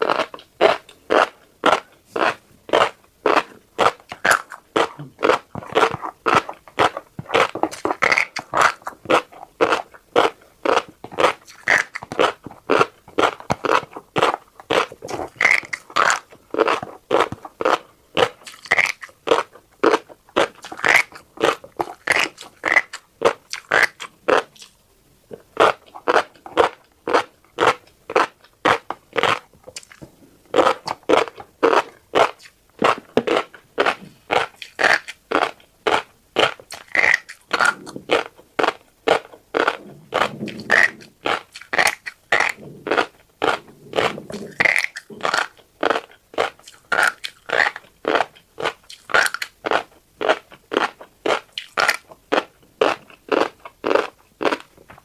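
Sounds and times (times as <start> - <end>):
crunchy chewing of seeds: 0.0 - 55.0.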